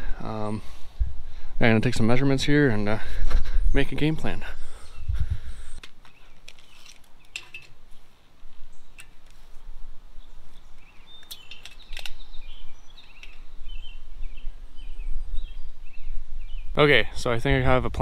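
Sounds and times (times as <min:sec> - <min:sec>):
birds chirping: 0:01.3 - 0:18.0.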